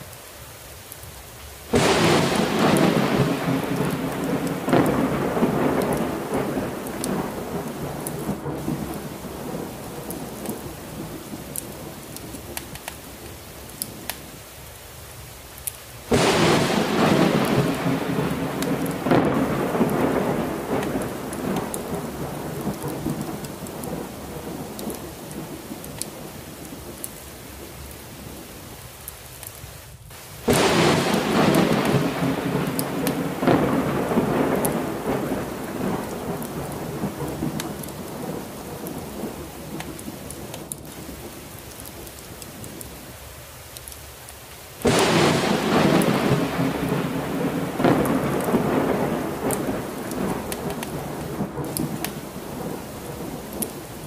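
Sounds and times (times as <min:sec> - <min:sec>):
heavy rain: 0:00.0 - 0:54.0
thunder rumbling: 0:01.7 - 0:14.0, 0:16.1 - 0:28.4, 0:30.2 - 0:43.0, 0:44.8 - 0:54.0.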